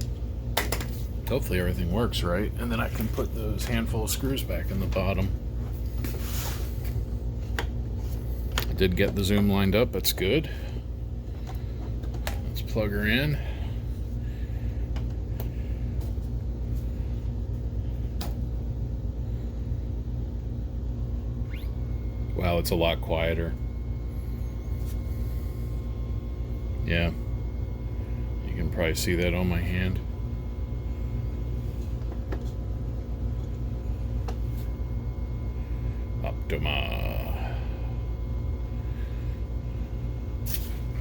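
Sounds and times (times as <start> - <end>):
faint color wheel whir: 0.0 - 41.0
projector fan humming: 0.0 - 41.0.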